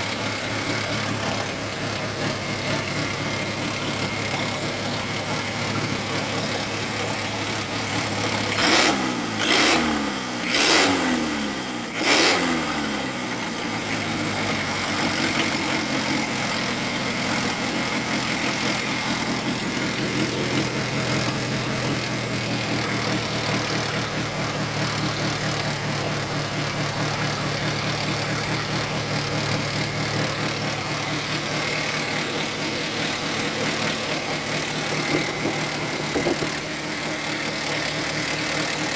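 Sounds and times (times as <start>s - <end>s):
diesel engine idling and revving: 0.0s - 38.9s.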